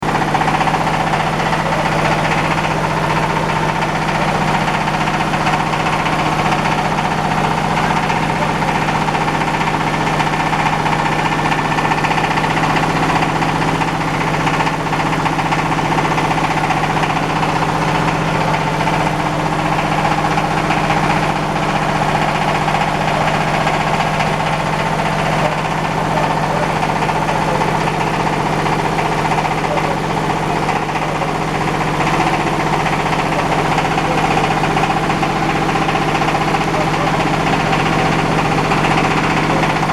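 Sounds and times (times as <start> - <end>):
diesel engine drone: 0.0 - 39.9
rice husker mechanical noise: 0.0 - 39.9.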